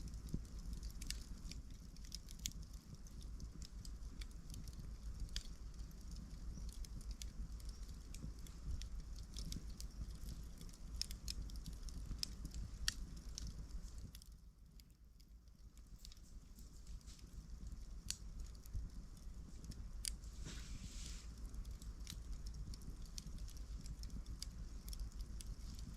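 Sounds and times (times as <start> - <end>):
campfire crackling and popping: 0.0 - 25.9
low rumble of flame: 0.0 - 25.9.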